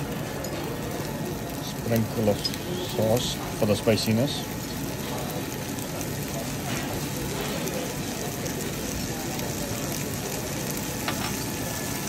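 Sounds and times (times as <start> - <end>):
kitchen hum: 0.0 - 12.0
noodles frying in a pan: 0.0 - 12.0.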